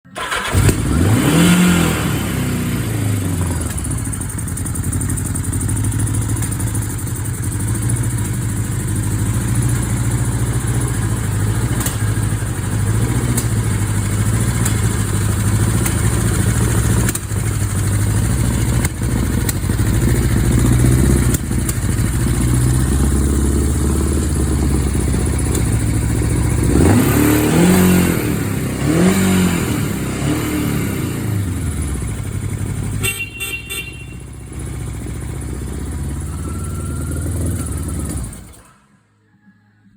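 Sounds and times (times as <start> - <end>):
engine revving: 0.1 - 6.6, 8.6 - 33.2, 34.4 - 38.8
motorcycle engine idling: 0.2 - 38.7.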